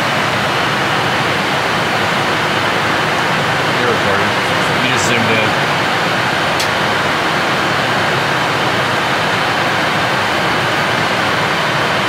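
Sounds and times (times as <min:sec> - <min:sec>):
airflow and engines rushing: 0:00.0 - 0:12.0.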